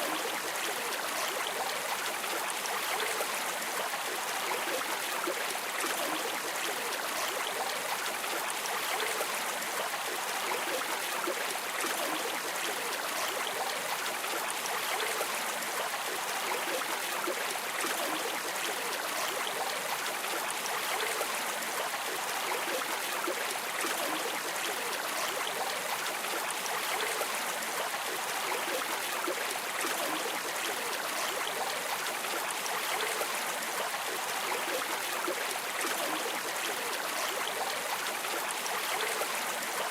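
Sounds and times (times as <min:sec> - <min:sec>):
river stream flowing: 0:00.0 - 0:39.9.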